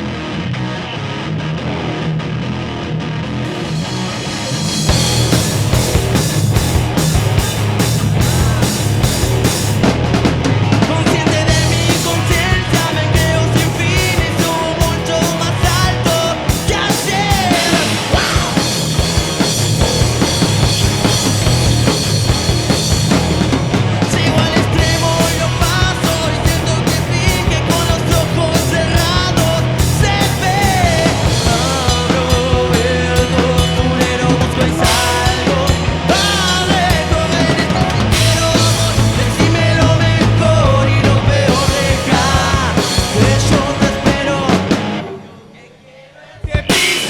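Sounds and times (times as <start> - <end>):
electric guitar bending pitch: 0.0 - 45.4
rock band playing: 0.0 - 45.5, 46.5 - 47.0.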